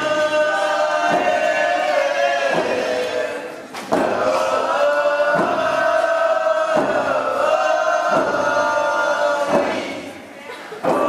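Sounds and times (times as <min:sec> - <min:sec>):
drum beating slowly: 0:00.0 - 0:10.2
group singing in unison: 0:00.0 - 0:11.0.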